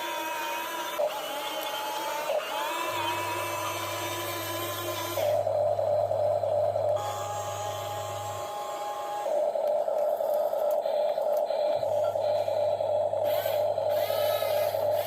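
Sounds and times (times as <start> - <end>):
electric gear motors whining: 0.0 - 15.0.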